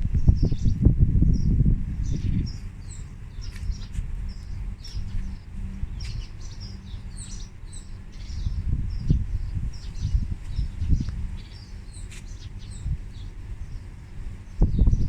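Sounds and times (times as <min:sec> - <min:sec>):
low rumbling hum: 0:00.0 - 0:15.0
small birds chirping: 0:00.1 - 0:15.0.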